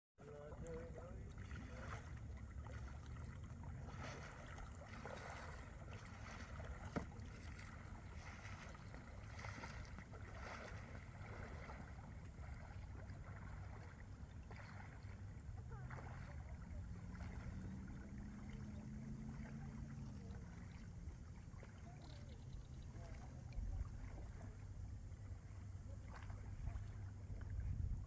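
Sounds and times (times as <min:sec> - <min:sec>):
paddle splashing in water: 0:00.2 - 0:28.0.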